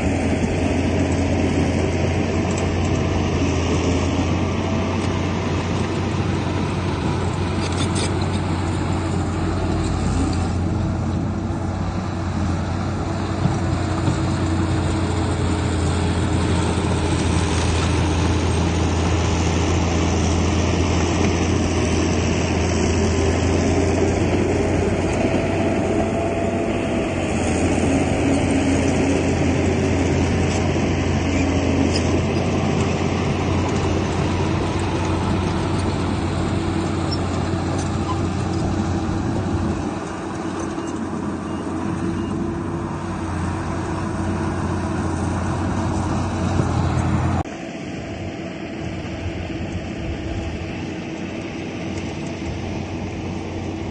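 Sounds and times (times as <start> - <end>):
heavy diesel engines droning: 0.0 - 53.9.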